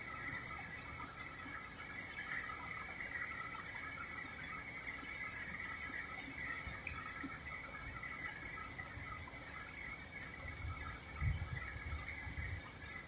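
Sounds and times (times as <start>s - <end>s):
insect chorus chirring: 0.0s - 13.0s.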